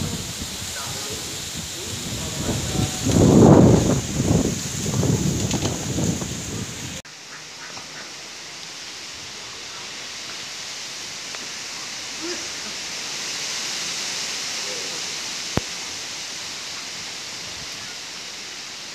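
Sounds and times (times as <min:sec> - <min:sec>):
wind rushing through trees: 0:00.0 - 0:18.9.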